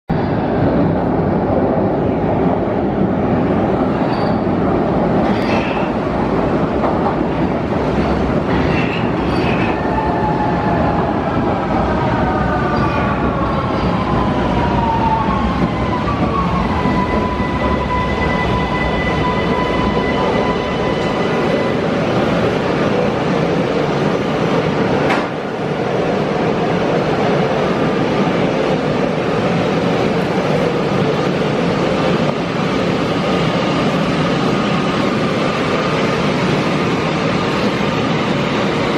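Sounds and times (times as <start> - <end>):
metro train rumbling: 0.1 - 38.9
train whine: 0.1 - 38.9.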